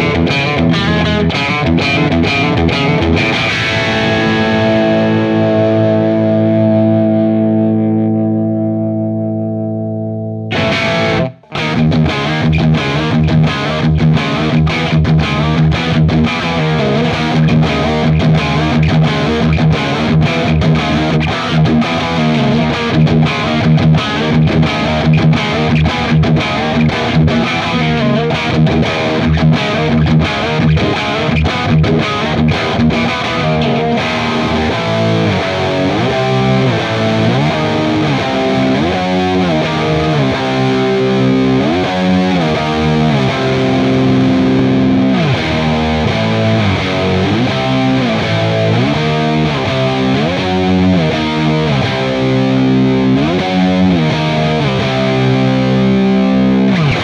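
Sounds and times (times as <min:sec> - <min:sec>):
overdriven electric guitar: 0:00.0 - 0:57.0.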